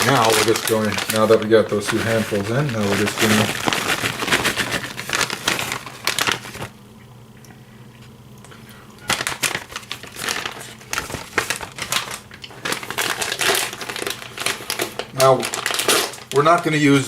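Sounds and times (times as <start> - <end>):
plastic packet crinkling: 0.0 - 6.8, 9.0 - 17.0.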